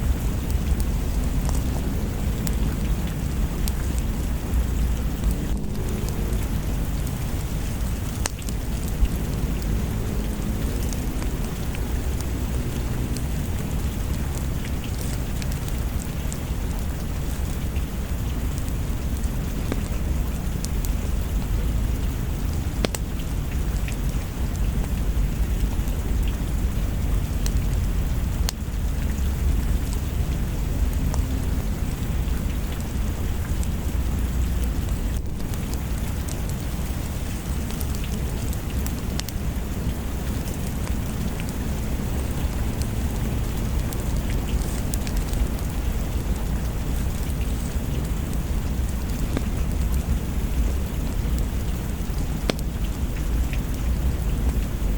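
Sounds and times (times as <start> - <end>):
deep low rumble: 0.0 - 54.9
heavy rain: 0.0 - 54.9.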